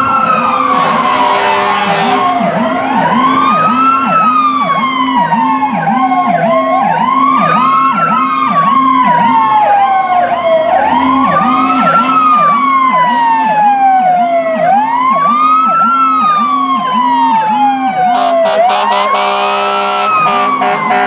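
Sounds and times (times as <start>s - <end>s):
wailing siren: 0.0s - 21.0s
warbling yelp siren: 0.0s - 21.0s.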